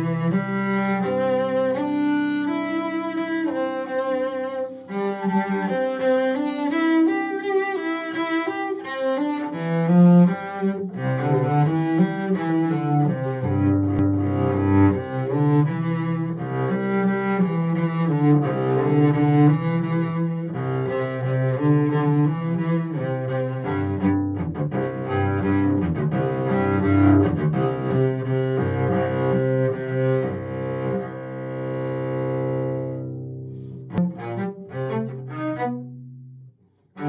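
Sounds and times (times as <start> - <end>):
solo cello music: 0.0 - 37.0.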